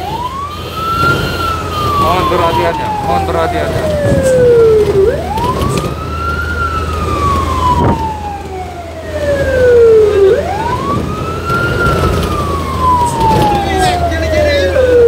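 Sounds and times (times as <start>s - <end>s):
low engine rumble: 0.0s - 15.0s
siren wailing: 0.0s - 15.0s.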